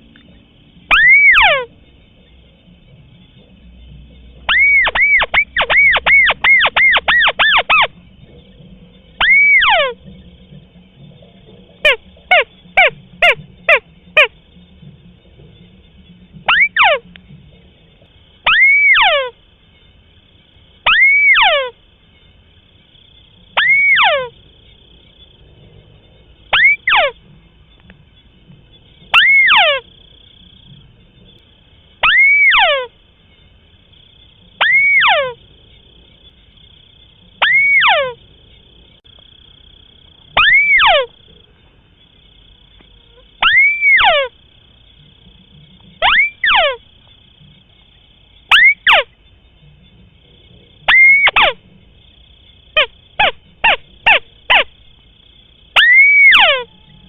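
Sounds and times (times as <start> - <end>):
bird calling: 0.9 - 20.0, 20.8 - 24.4, 26.2 - 35.5, 36.1 - 41.7, 42.3 - 57.0.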